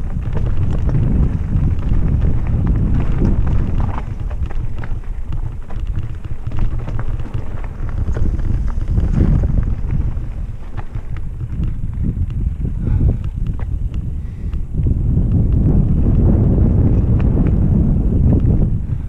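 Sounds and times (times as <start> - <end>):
bike rattling clicks: 0.0 - 18.7
tyres crunching over dirt: 0.0 - 18.7
wind rumble on microphone: 0.0 - 19.0.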